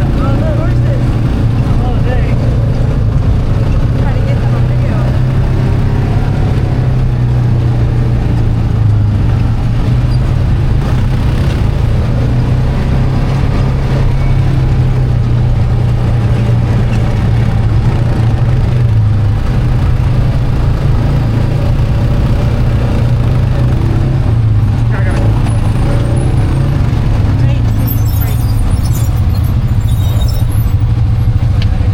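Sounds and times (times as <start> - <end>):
atv engine drone: 0.0 - 31.9.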